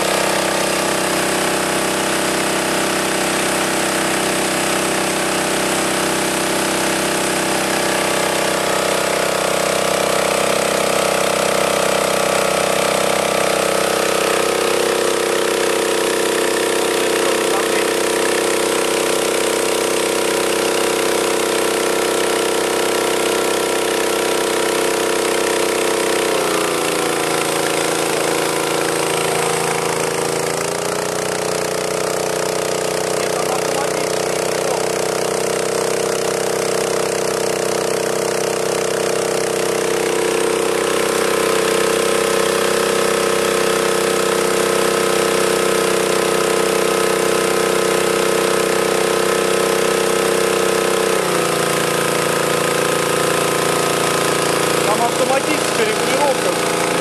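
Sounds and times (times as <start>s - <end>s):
engine-driven air compressor running: 0.0s - 57.0s.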